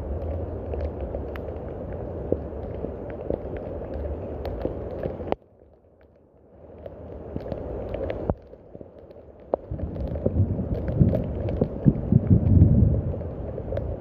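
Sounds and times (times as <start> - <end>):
close raindrop clicks: 0.0 - 14.0
rain falling: 0.0 - 14.0.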